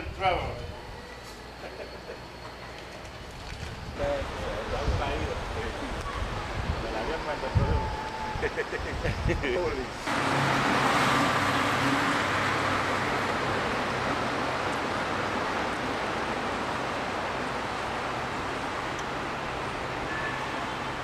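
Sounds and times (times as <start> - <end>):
road traffic rushing: 0.7 - 21.0.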